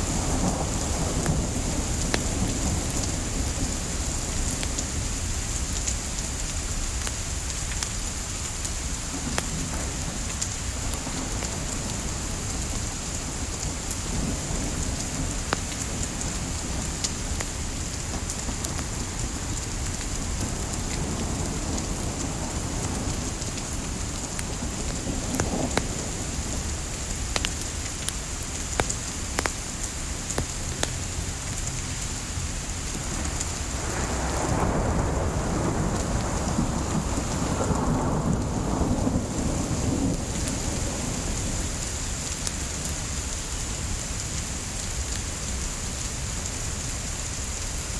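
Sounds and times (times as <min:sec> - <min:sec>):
rain hiss: 0:00.0 - 0:47.9
firewood crackling: 0:05.7 - 0:46.6.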